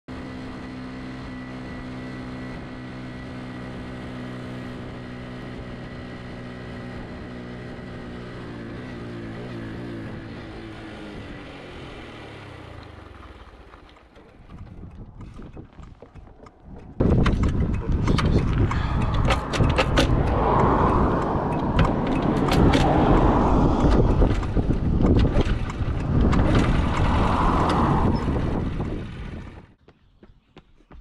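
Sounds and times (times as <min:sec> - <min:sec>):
engine running: 0:00.1 - 0:29.9.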